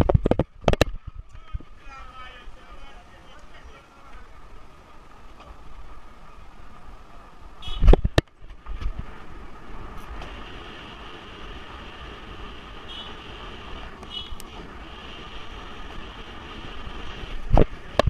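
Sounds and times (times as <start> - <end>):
wind and tyre noise: 0.0 - 18.0.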